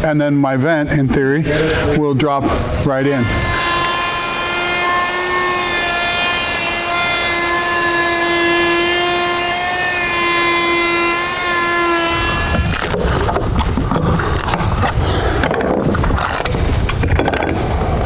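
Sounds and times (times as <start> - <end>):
rough grinding noise: 1.4 - 18.0
router whining: 2.6 - 18.0.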